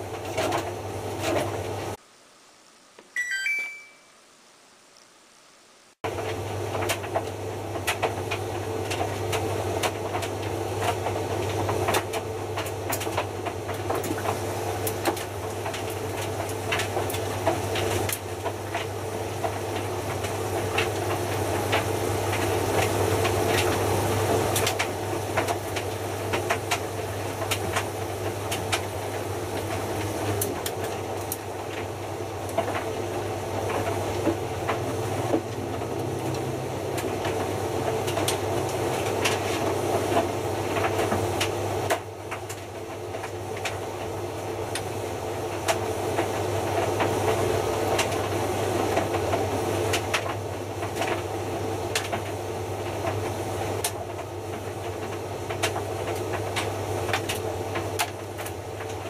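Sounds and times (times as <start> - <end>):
washing machine drum motor humming: 6.1 - 59.0.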